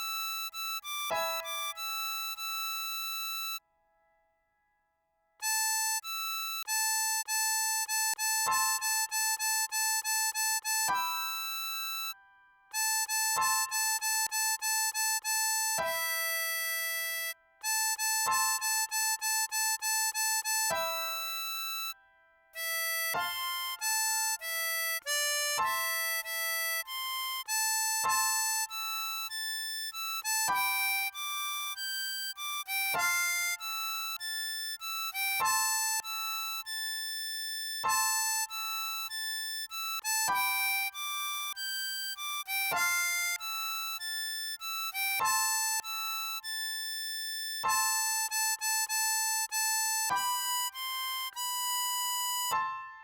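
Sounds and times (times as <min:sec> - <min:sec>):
harmonica playing melody: 0:00.0 - 0:03.6, 0:05.4 - 0:22.0, 0:22.6 - 0:52.9.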